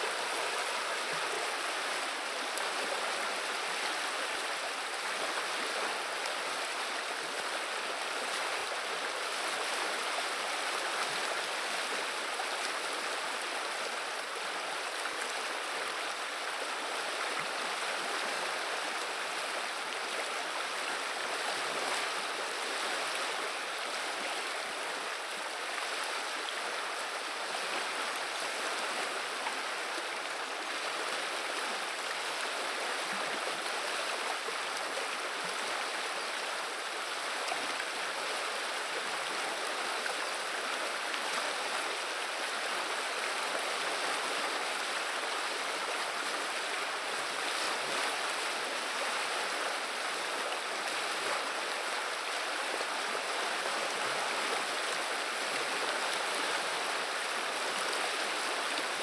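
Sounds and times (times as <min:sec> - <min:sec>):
river water babbling: 0:00.0 - 0:59.0.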